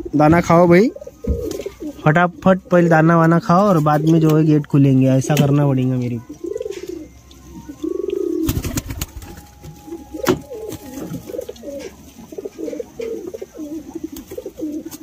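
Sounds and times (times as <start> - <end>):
pigeons cooing: 0.0 - 4.6, 5.3 - 15.0.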